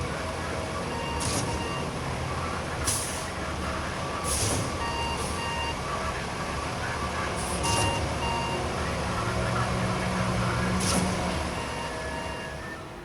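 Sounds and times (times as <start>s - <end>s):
diesel engine running: 0.0s - 13.0s
reversing alarm beeps: 0.3s - 13.0s.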